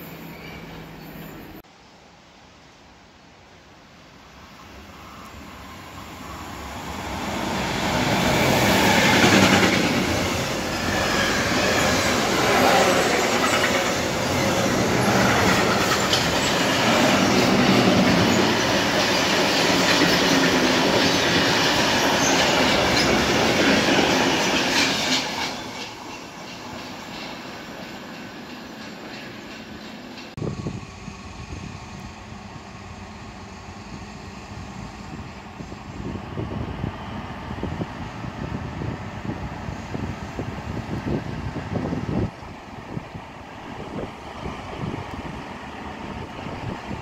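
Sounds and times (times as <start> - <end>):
locomotive approaching: 4.2 - 47.0.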